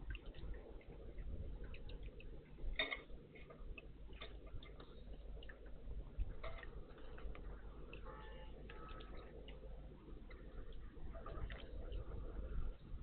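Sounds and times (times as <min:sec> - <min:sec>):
small birds ticking and tapping: 0:00.0 - 0:12.1.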